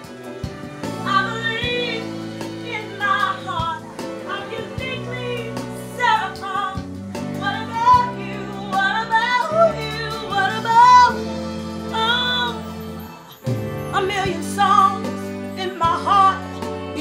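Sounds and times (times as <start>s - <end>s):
instrumental chords: 0.0s - 17.0s
woman singing soulful song: 0.8s - 13.0s, 13.8s - 17.0s.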